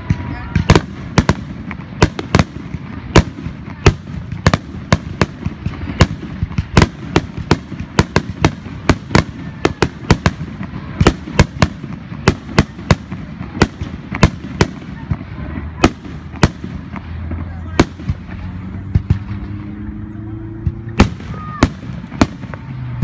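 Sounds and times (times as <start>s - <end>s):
low rumble of explosions: 0.0s - 23.0s.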